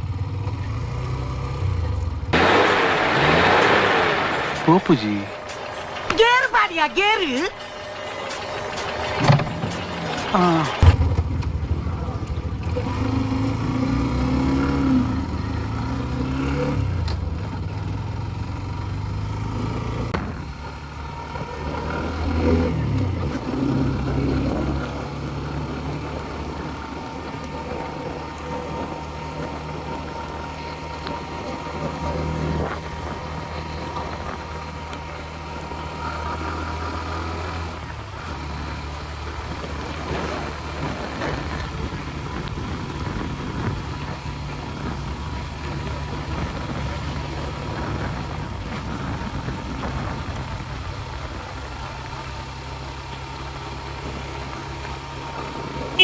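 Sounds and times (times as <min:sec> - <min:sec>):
motorcycle engine running: 0:00.0 - 0:06.4, 0:07.5 - 0:56.0.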